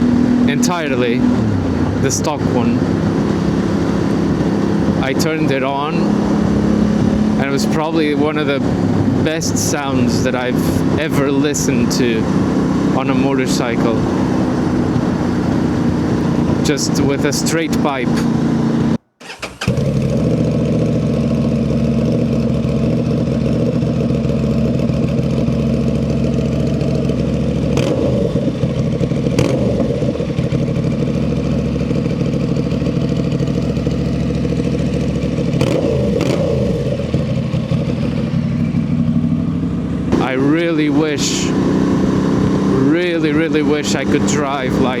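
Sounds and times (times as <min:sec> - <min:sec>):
motorcycle engine idling: 0:00.0 - 0:45.0.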